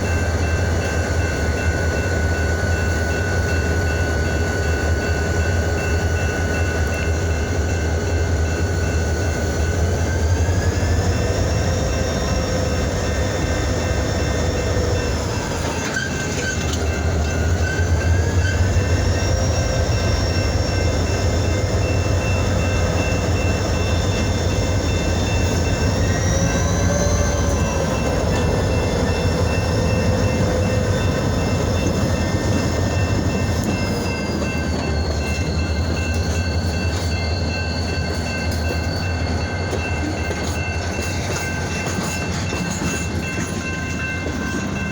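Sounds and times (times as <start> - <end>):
diesel locomotive rumble: 0.0 - 44.9.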